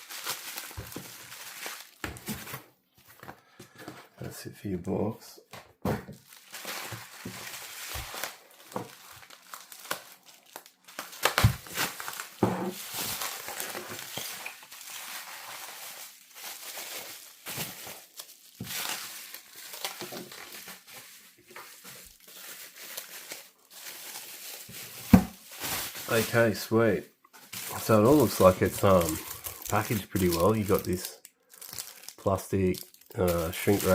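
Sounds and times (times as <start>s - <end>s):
plastic wrap crinkling: 0.0s - 3.6s, 6.2s - 33.9s.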